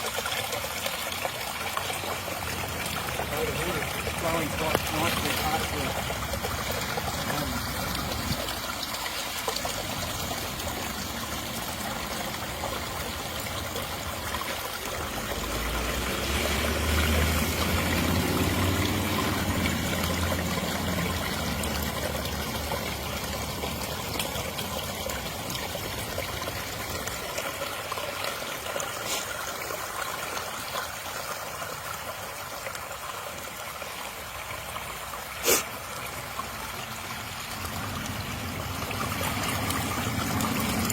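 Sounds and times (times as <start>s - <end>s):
water trickling over rocks: 0.0s - 40.9s.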